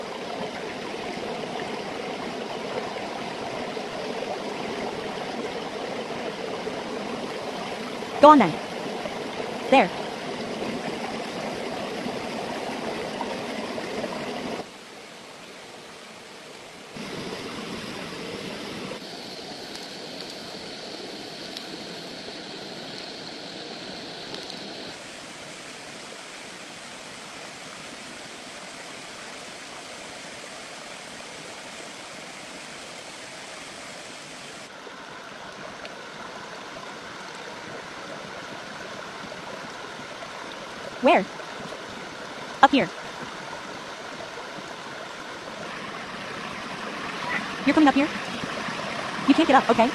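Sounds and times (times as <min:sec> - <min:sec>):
flowing water: 0:00.0 - 0:49.9.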